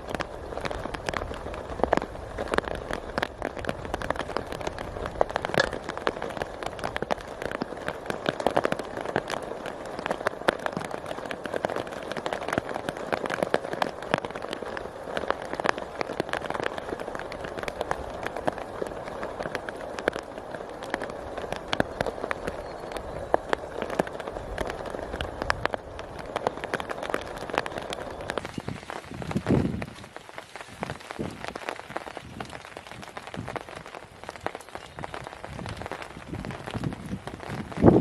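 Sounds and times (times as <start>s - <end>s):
rain pattering on surface: 0.0s - 38.0s.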